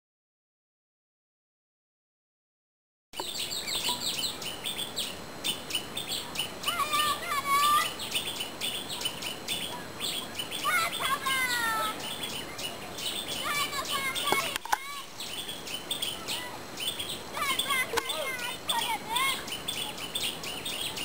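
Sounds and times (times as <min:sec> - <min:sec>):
birds chirping: 0:03.2 - 0:21.0.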